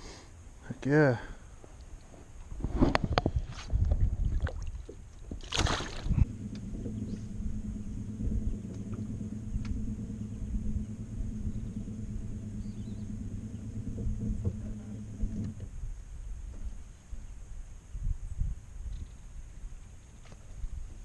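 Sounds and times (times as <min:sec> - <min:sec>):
low motor hum: 0:03.1 - 0:21.0.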